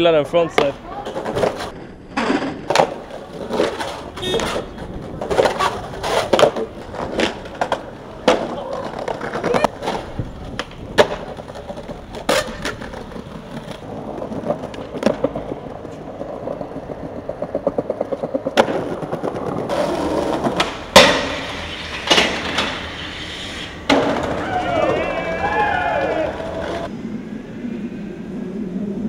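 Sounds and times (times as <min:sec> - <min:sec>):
skateboard rolling on concrete: 0:00.0 - 0:29.0
skateboard popping and landing: 0:00.4 - 0:25.1.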